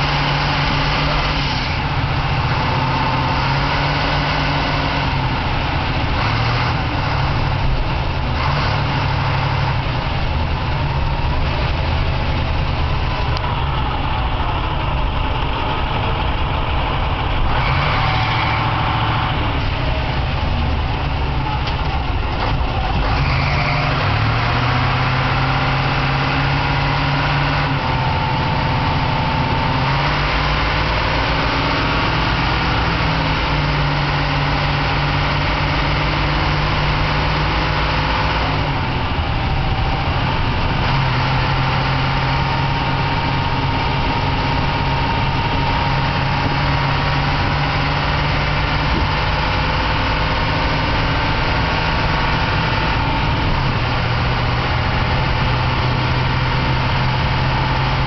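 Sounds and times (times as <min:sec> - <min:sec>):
diesel engine changing gear: 0:00.0 - 0:58.0.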